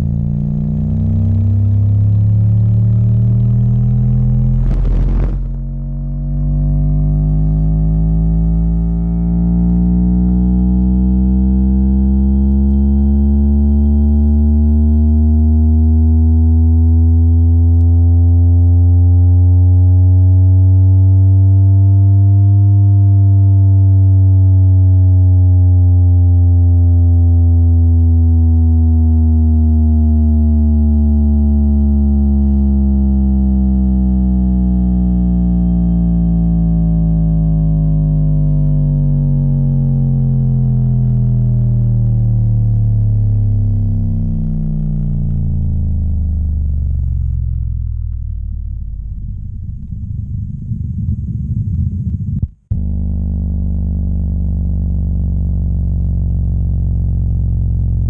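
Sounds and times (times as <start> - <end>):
deep buzzy bass tone sweeping: 0.0 - 58.0.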